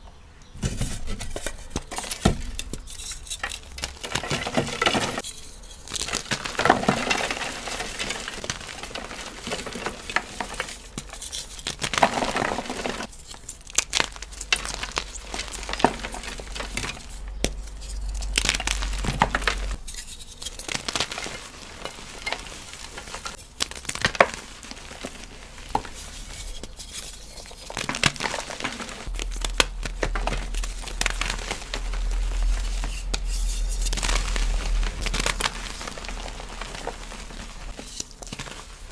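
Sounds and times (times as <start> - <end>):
chalk cubes crunching: 1.2 - 38.9.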